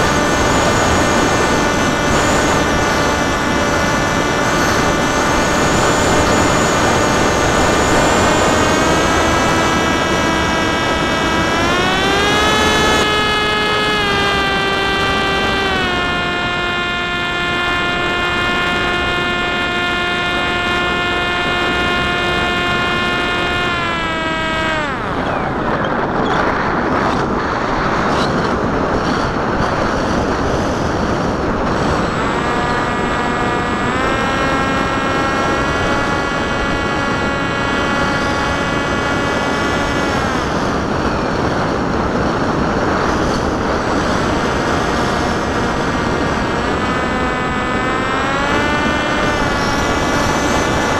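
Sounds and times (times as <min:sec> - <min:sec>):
electric motor and propeller whine: 0:00.0 - 0:50.9.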